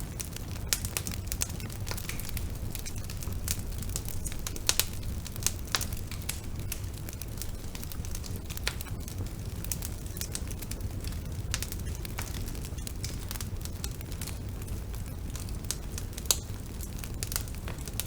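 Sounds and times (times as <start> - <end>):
bonfire flames rumbling: 0.0 - 18.0
burning wood crackling and popping: 0.0 - 18.0.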